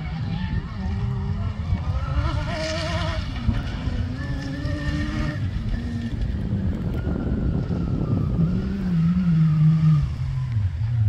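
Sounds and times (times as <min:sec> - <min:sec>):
car engine racing: 0:00.0 - 0:11.0.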